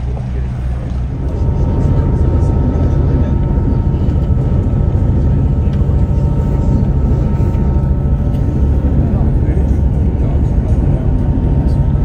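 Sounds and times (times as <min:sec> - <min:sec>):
boat engine rumbling: 0:00.0 - 0:12.0
faint steady engine whine: 0:00.0 - 0:12.0.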